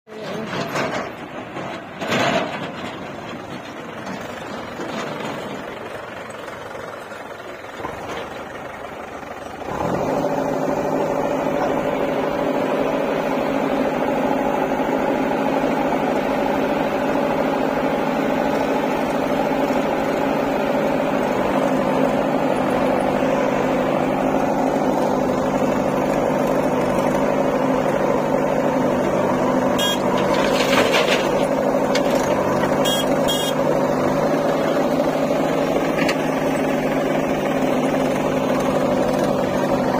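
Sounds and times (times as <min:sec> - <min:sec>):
diesel engines running: 0:00.1 - 0:39.9.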